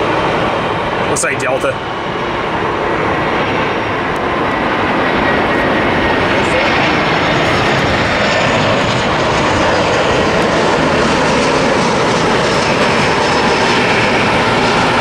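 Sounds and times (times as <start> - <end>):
jet airliner engines rushing: 0.0 - 15.0.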